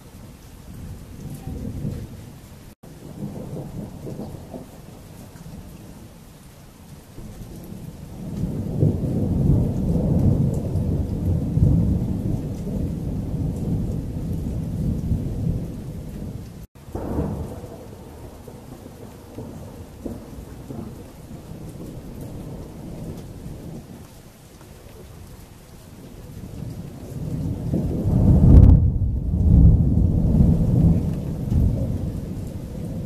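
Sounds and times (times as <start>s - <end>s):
rain falling: 0.0s - 33.0s
thunder rolling: 0.7s - 6.0s, 7.6s - 23.9s, 26.4s - 33.0s.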